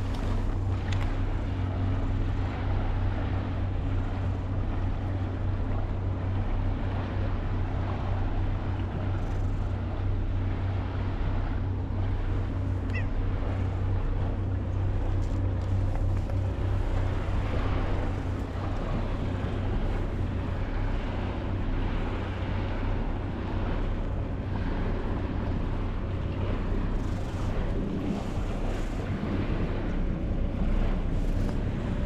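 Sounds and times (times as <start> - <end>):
constant hum: 0.0 - 32.0
low rumble: 0.0 - 32.0
outdoor background noise: 0.0 - 32.0.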